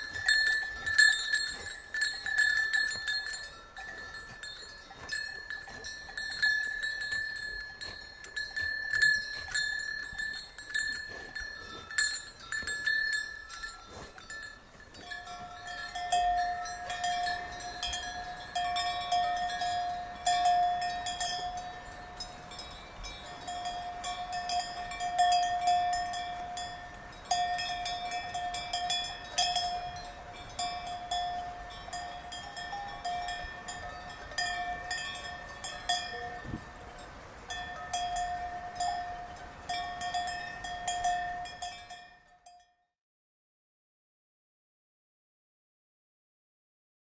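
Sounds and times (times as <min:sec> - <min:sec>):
cowbells clanking: 0:00.0 - 0:42.8
lower-pitched bell: 0:00.0 - 0:42.8.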